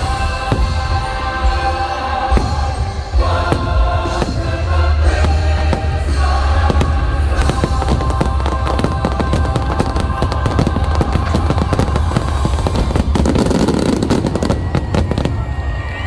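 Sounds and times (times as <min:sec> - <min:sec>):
firework bursts rumbling: 0:00.0 - 0:16.0
orchestral music: 0:00.0 - 0:16.0
firework cracks and pops: 0:02.3 - 0:15.8.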